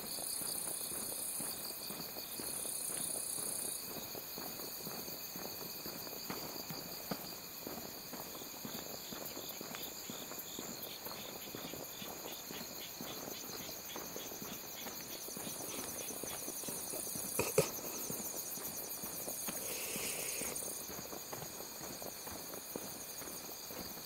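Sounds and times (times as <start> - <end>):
night insects chirping: 0.0 - 24.0
footsteps walking: 1.0 - 24.0.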